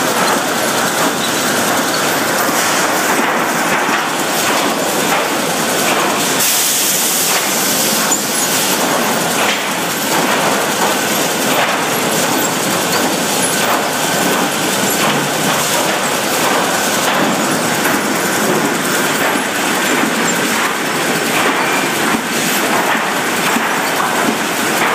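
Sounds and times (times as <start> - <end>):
chain conveyor rattling: 0.0 - 24.9.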